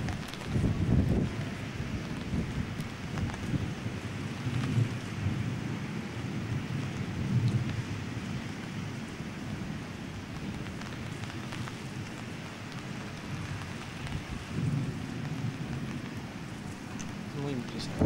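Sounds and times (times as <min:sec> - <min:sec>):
thunder rumbling: 0:00.0 - 0:18.0
torrential rain: 0:00.0 - 0:18.0.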